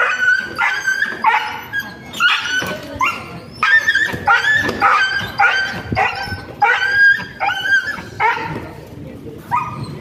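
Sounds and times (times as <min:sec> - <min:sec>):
dog yelping: 0:00.0 - 0:08.6, 0:09.5 - 0:10.0.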